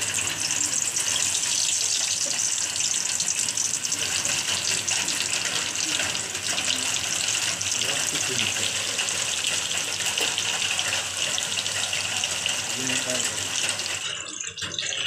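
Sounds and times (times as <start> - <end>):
fish deep-frying in oil: 0.0 - 15.0.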